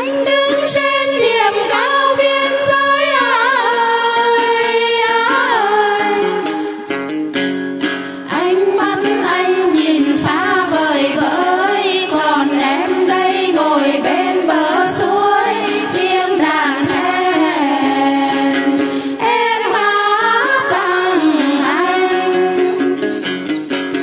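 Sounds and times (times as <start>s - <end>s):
women singing into microphones: 0.0s - 6.9s, 8.0s - 23.3s
instrumental accompaniment: 0.0s - 24.0s.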